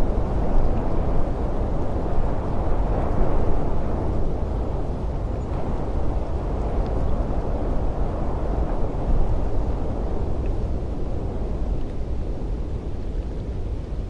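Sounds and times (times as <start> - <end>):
wind blowing: 0.0 - 14.0.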